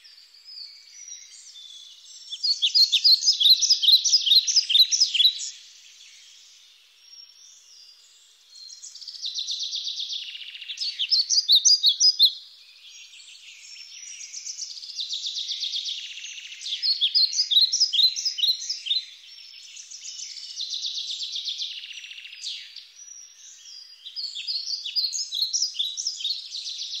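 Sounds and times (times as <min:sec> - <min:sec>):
small birds chirping and trilling: 0:00.0 - 0:27.0.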